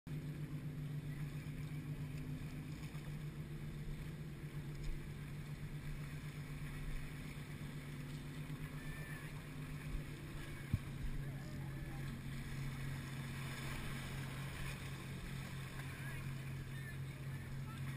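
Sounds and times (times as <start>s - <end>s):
low engine drone: 0.1s - 17.9s.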